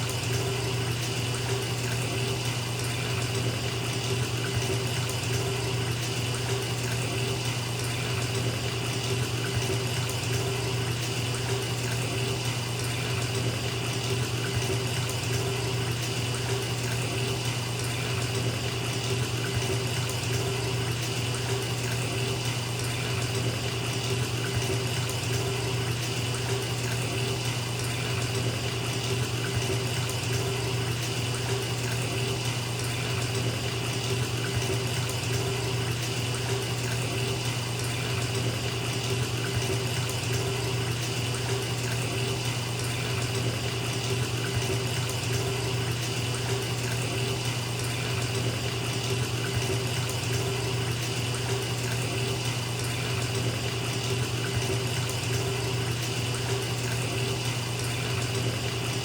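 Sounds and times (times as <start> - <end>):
tap water filling bathtub: 0.0 - 59.0.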